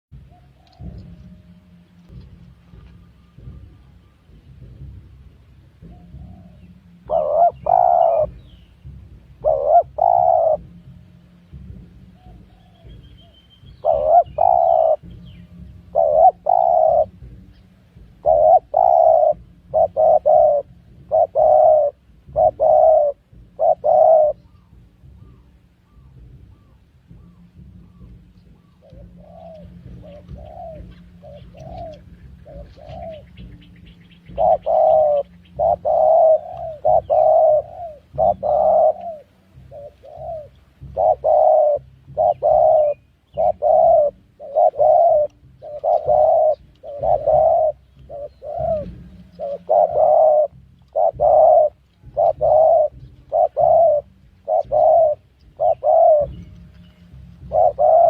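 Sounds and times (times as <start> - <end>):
dove cooing: 0.1 - 58.0.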